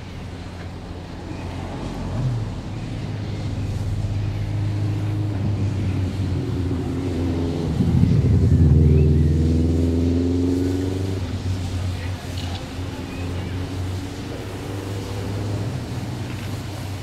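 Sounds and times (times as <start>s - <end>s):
steam locomotive exhaust beats: 0.0s - 17.0s.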